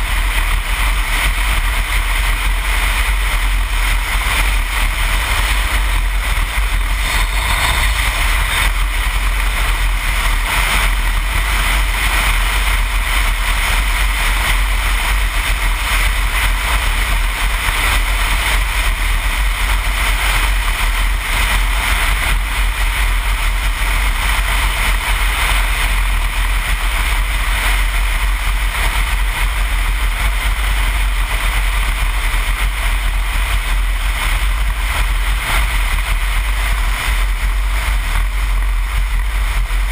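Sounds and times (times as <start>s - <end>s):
motorcycle engine low rumble: 0.0s - 39.9s
wind rush on microphone: 0.0s - 39.9s.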